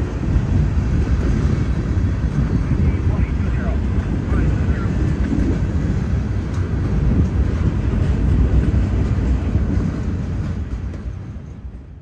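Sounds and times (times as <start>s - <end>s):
freight train rumbling: 0.0s - 12.0s.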